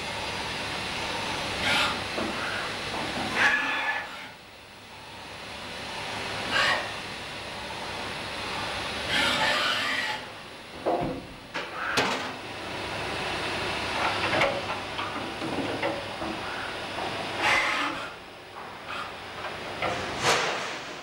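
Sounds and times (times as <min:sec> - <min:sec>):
machine noise: 0:00.0 - 0:21.0.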